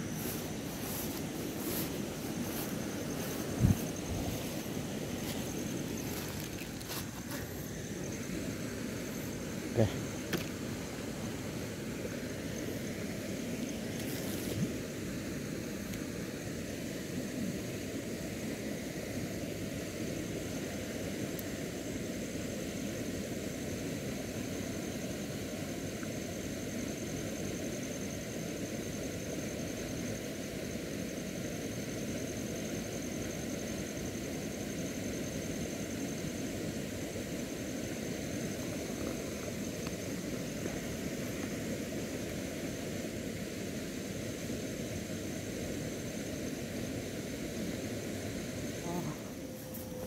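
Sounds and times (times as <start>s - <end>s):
high-pitched whine: 0.0s - 50.0s.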